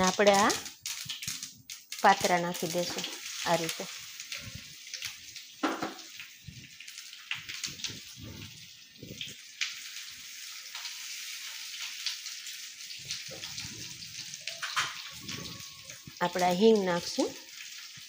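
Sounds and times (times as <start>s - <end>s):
oil sizzling in a frying pan: 0.0s - 18.0s
seeds popping and crackling: 0.0s - 18.0s.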